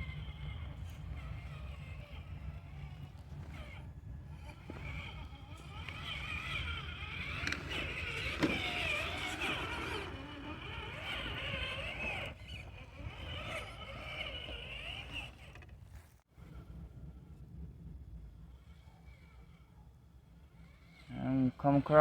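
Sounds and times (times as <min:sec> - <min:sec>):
electric motor whining: 0:00.0 - 0:16.2, 0:20.5 - 0:22.0.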